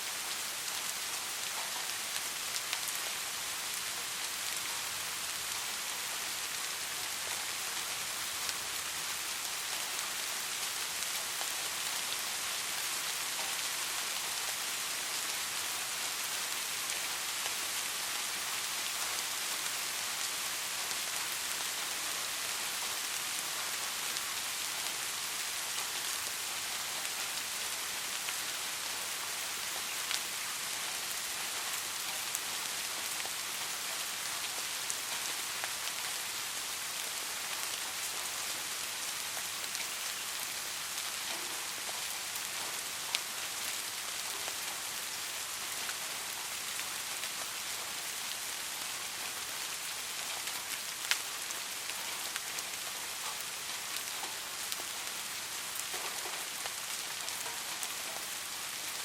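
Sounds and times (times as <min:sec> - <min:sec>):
soft rain hiss: 0:00.0 - 0:59.0.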